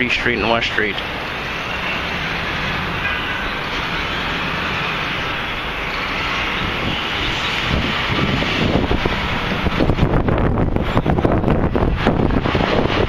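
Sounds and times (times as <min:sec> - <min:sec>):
busy street traffic: 0:00.0 - 0:13.0.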